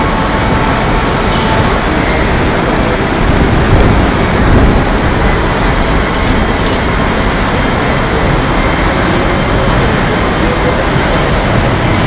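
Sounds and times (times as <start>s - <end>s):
factory rush and rumble: 0.0s - 12.0s.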